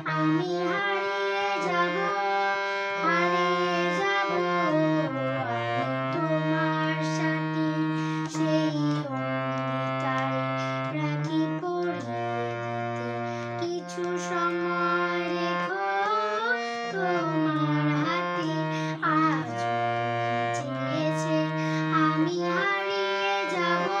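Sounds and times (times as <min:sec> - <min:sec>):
harmonium chords: 0:00.0 - 0:24.0.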